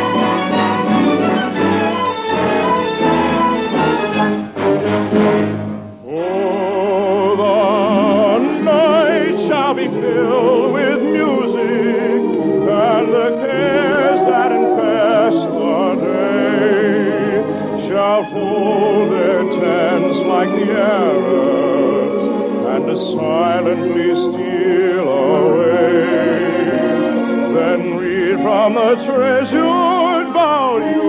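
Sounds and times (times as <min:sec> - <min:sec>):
operatic singing with vibrato: 0:00.0 - 0:31.0
orchestra playing: 0:00.0 - 0:31.0.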